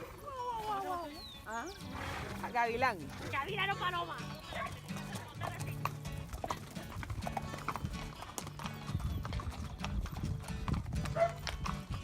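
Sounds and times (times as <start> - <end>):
horse hooves clip-clopping: 0.0 - 12.0
background music: 1.2 - 12.0.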